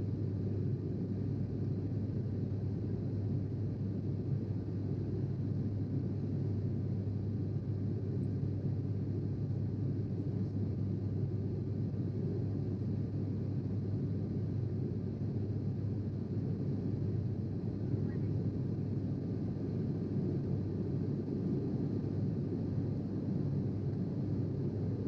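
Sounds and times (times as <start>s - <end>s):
aircraft cabin engine rumble: 0.0s - 25.0s
faint steady whine: 0.0s - 25.0s.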